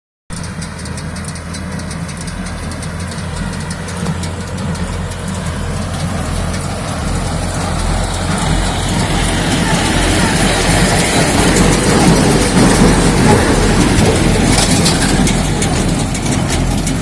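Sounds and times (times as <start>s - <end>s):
rapid ticking: 0.3s - 17.0s
tractor diesel engine running: 0.3s - 17.0s.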